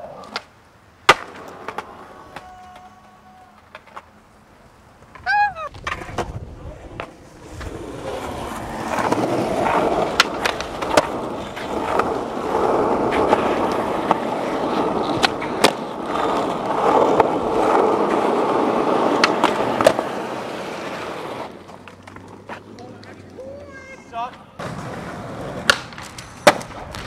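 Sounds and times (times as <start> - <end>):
skateboard wheels rolling on asphalt: 0.0 - 27.0.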